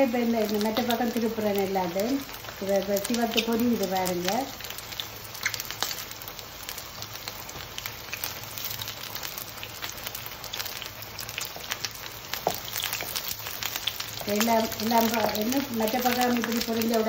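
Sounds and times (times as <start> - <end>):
cheese sizzling in hot oil: 0.0 - 17.0.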